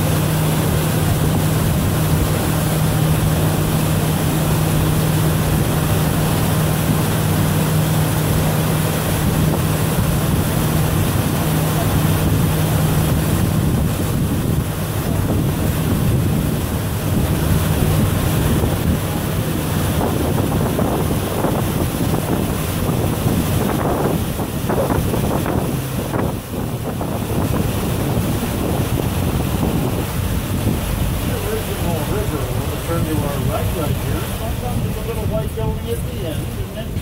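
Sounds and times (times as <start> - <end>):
boat motor humming: 0.0 - 37.0
water rushing and splashing: 0.0 - 37.0
wind buffeting microphone: 0.0 - 37.0.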